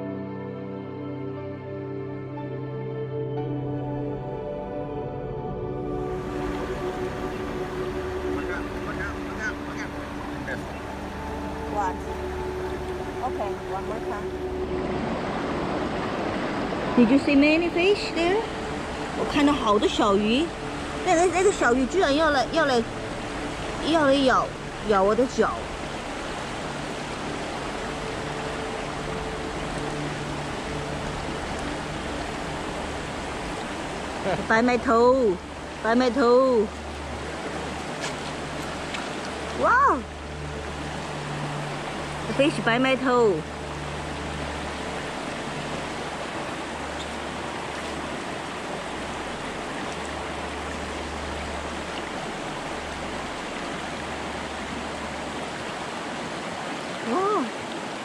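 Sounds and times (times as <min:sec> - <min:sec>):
stream flowing over pebbles: 0:05.8 - 0:58.0.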